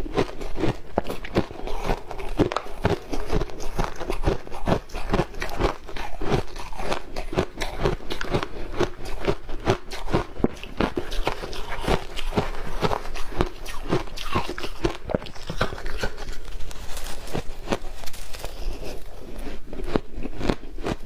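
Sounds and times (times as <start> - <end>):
ice cubes crunching being chewed: 0.0 - 21.0.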